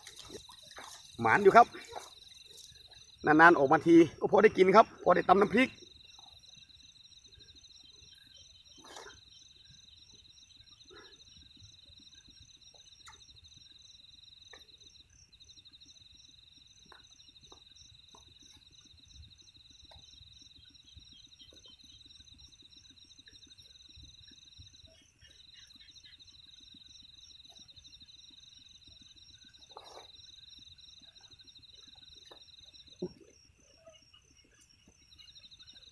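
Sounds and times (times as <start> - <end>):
higher pulsing insect call: 0.0 - 35.9
insects trilling: 0.0 - 35.9.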